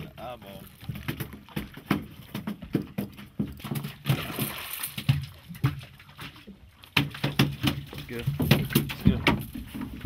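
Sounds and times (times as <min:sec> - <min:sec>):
water splash: 0:00.0 - 0:10.0
fish thrashing against boat: 0:00.6 - 0:10.0.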